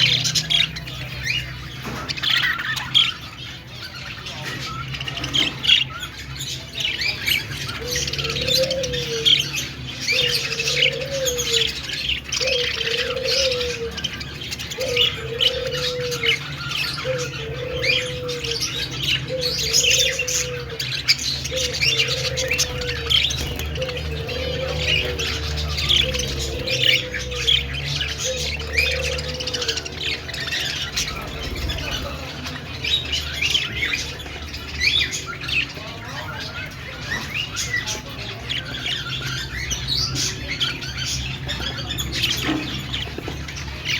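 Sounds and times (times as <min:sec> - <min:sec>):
budgies chirping and warbling: 0:00.0 - 0:43.9.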